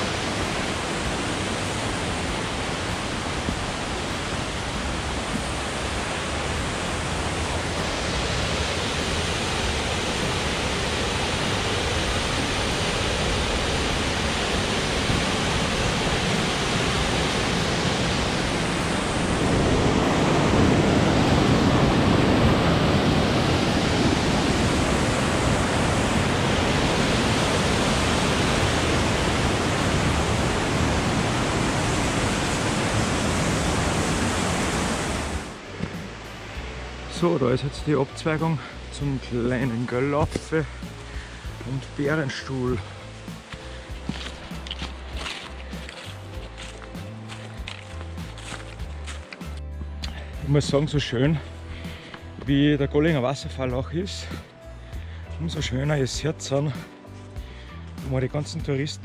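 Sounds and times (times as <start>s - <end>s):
waterfall splashing over boulders: 0.0s - 49.2s.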